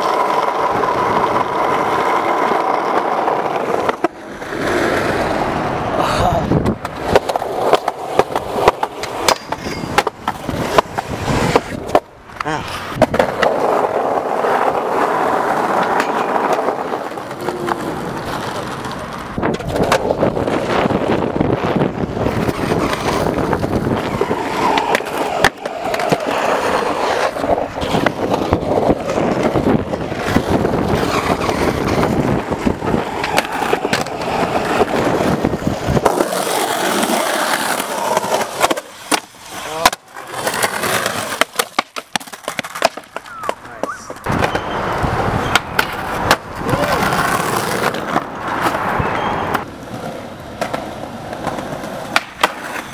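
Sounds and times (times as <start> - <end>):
skateboard wheels rolling: 0.0 - 52.9
skateboard clacks and landings: 6.5 - 21.4, 22.0 - 52.9.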